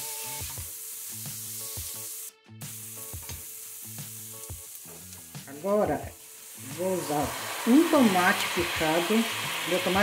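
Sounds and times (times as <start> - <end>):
background music: 0.0 - 10.0
vegetables sizzling in oil: 0.0 - 10.0.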